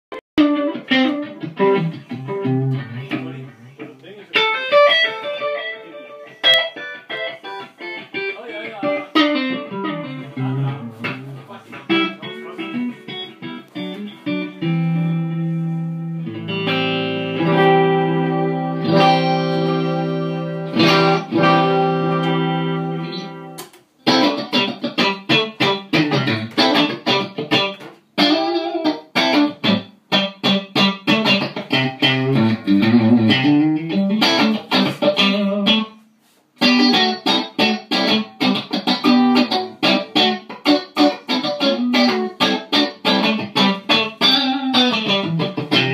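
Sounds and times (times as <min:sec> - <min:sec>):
electric guitar playing: 0:00.4 - 0:45.9.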